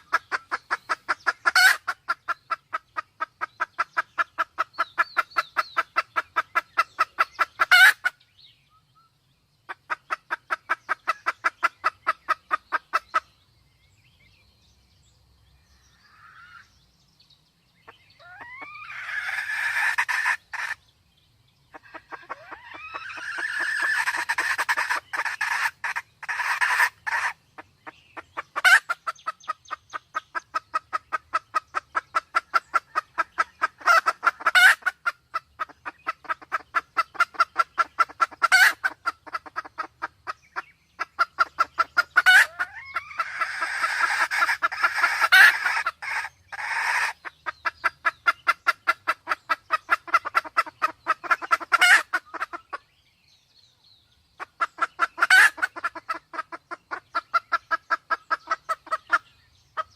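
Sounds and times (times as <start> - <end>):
harsh junglefowl calls: 0.0 - 8.2, 9.7 - 13.4, 15.8 - 16.7, 17.8 - 20.8, 21.7 - 52.9, 54.4 - 59.9
junglefowl clucking: 0.0 - 8.2, 9.7 - 13.4, 16.0 - 16.7, 17.8 - 20.8, 21.7 - 52.9, 54.4 - 59.9.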